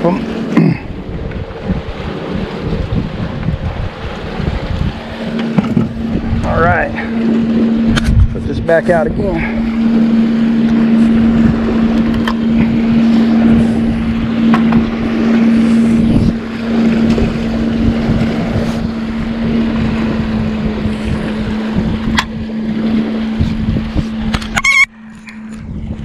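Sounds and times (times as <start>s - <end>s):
boat engine humming: 0.0s - 26.0s
wind buffeting microphone: 0.0s - 26.0s.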